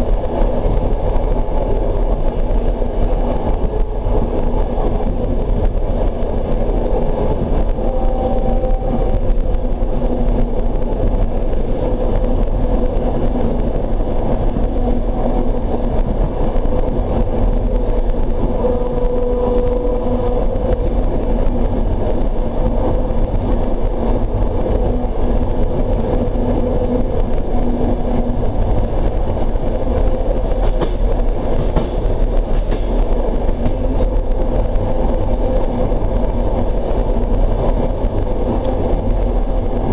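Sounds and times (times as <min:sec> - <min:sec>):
train rumble and hiss: 0:00.0 - 0:39.9.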